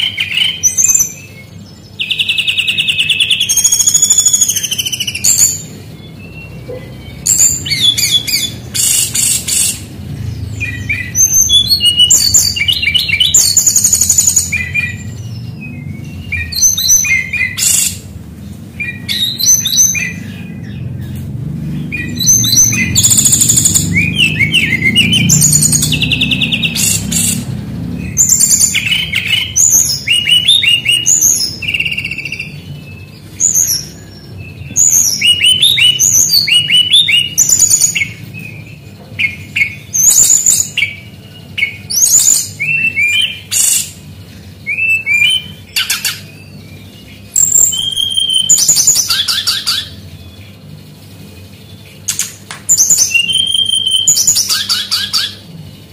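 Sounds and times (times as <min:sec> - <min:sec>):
flycatcher singing: 0:00.0 - 0:50.7, 0:51.3 - 0:55.5.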